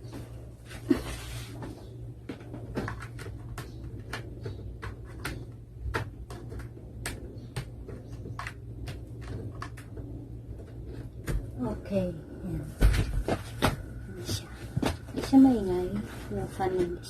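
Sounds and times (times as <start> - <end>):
fans humming: 0.0 - 17.0.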